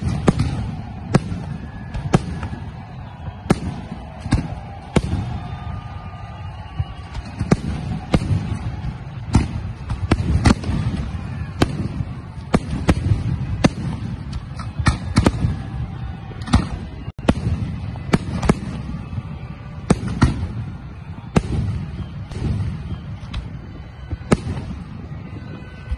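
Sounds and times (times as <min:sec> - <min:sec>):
fireworks bangs: 0:00.0 - 0:25.9.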